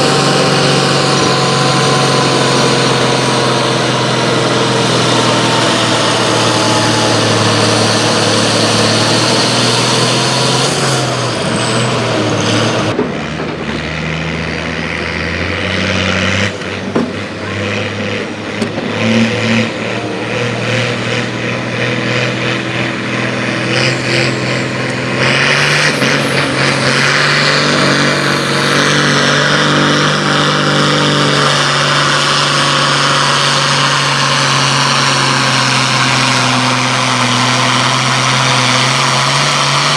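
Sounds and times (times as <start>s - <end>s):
loud pulling vehicle engine: 0.0s - 39.9s.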